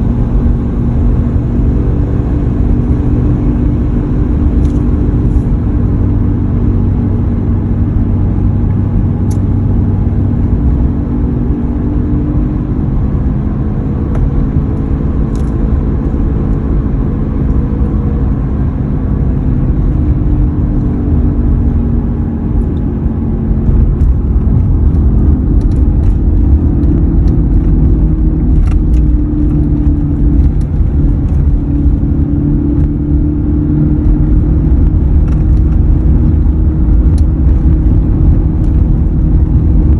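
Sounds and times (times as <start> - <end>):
road rumble: 0.0 - 39.9
steady low hum: 0.0 - 39.9.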